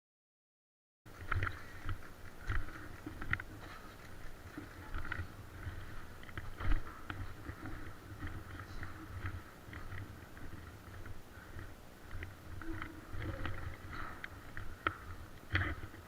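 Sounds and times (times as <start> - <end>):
rustle of gear: 1.1 - 16.0
footsteps on rubble: 1.2 - 16.0.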